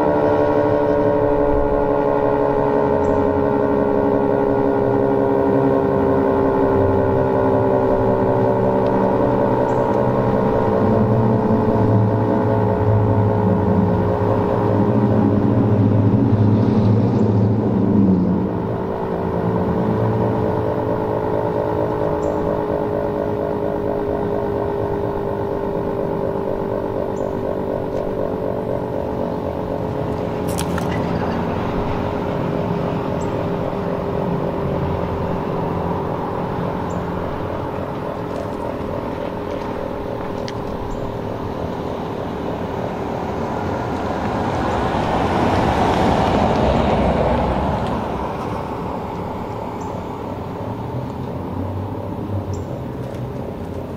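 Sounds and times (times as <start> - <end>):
three-tone siren chord: 0.0 - 52.6
traffic rumble: 0.0 - 53.9
vehicle passing: 0.0 - 53.9.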